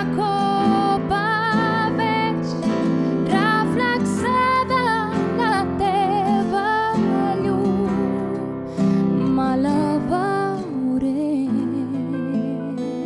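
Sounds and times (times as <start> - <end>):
acoustic guitar: 0.0 - 13.0
woman singing: 0.0 - 13.0.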